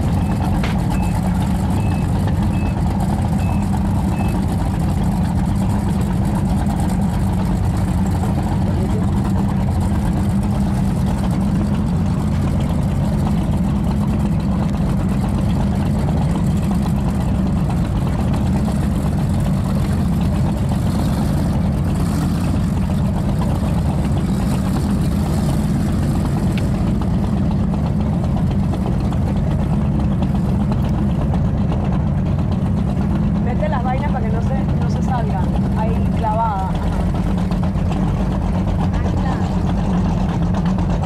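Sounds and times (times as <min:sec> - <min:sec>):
powerboat engines droning: 0:00.0 - 0:41.0.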